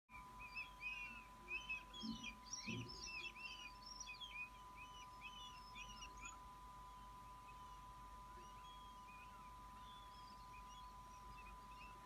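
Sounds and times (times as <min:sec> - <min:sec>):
steady electronic whine: 0:00.1 - 0:12.0
high bird chirps: 0:00.4 - 0:12.0.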